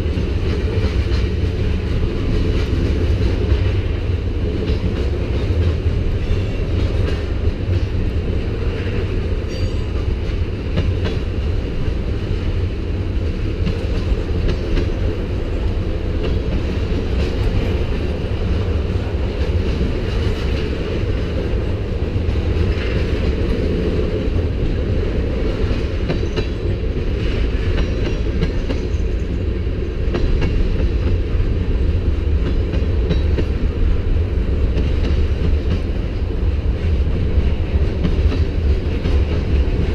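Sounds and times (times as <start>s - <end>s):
freight train rumbling past: 0.0s - 39.9s
train wheels clicking: 0.0s - 39.9s.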